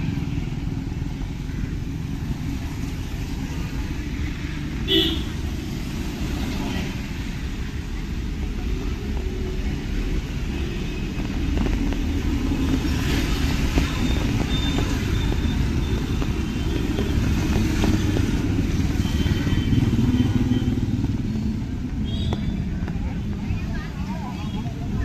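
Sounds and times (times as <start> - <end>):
car engines running: 0.0 - 25.0.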